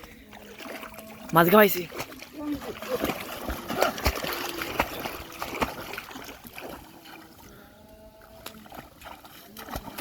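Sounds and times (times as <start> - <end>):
shallow water splashing: 0.0 - 10.0.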